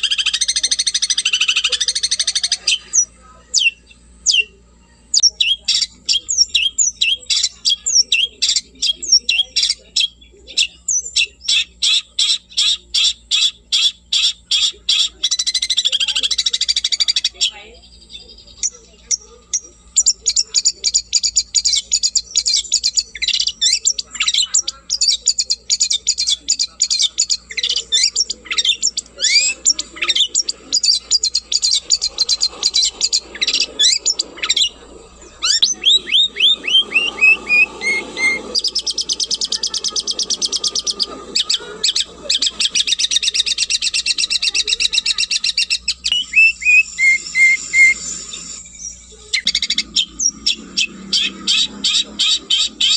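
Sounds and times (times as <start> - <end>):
shrike singing chattering phrases: 0.0 - 52.9.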